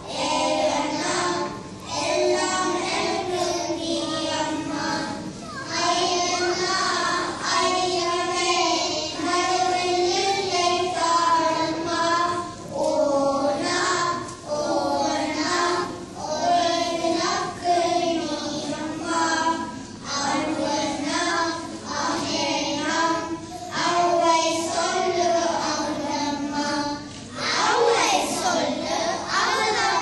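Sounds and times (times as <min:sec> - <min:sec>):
children singing together: 0:00.0 - 0:30.0.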